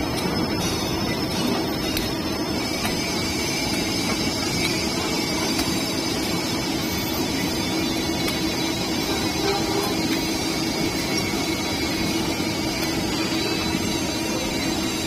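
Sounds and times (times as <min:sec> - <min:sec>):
welding machine running: 0:00.0 - 0:15.0.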